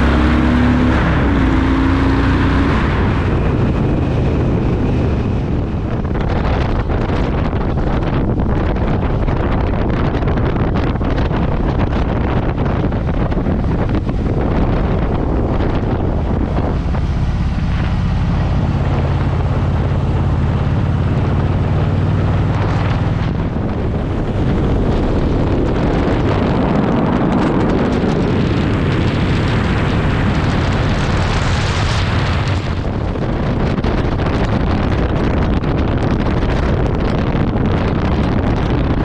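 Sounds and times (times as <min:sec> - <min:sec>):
motorcycle engine: 0:00.0 - 0:39.0
wind buffeting microphone: 0:00.0 - 0:39.0.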